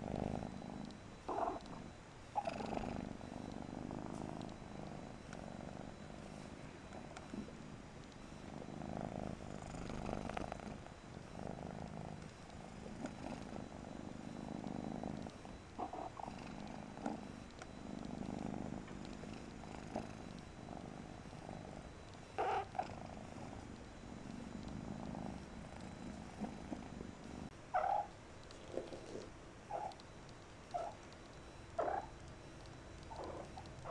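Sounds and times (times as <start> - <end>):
kitten purring: 0.0 - 30.1, 30.7 - 33.9.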